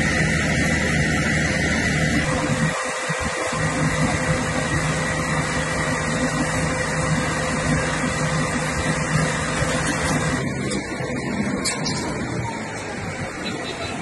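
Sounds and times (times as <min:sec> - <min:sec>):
fire truck engine humming: 0:00.0 - 0:14.0
water pump rushing: 0:00.0 - 0:14.0.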